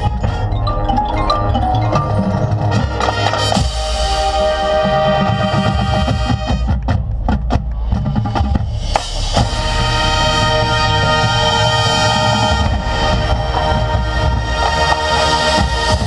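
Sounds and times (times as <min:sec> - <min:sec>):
loud music with drums: 0:00.0 - 0:16.0.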